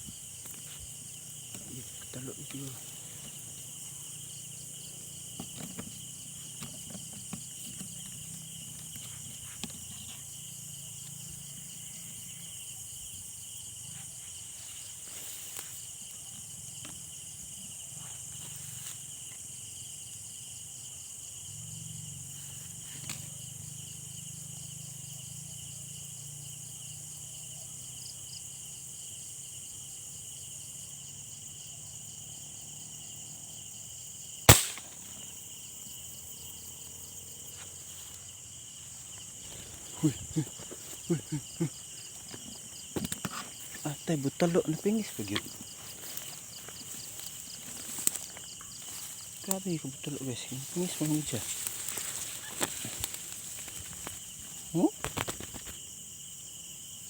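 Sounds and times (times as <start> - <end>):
night insects chorus: 0.0 - 57.0.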